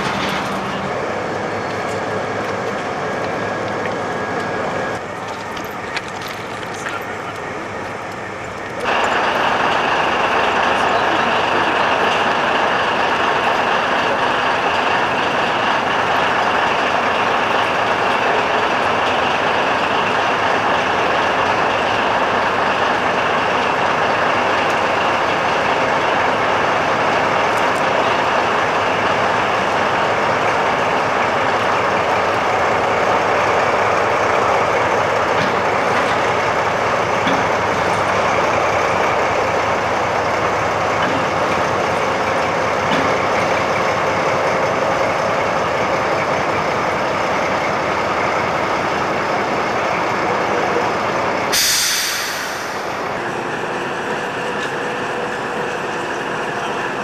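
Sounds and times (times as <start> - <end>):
diesel locomotive engine running: 0.0 - 57.0.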